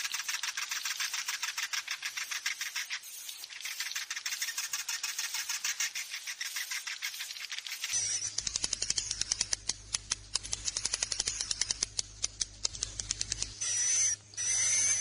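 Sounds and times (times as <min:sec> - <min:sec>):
swiftlet chittering clicks and chirps: 0:00.0 - 0:15.0.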